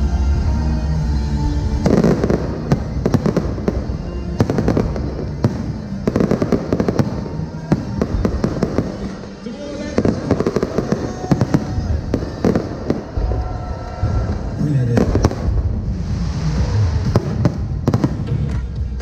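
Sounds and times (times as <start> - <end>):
low music: 0.0 - 19.0
fireworks cracking and popping: 1.8 - 19.0.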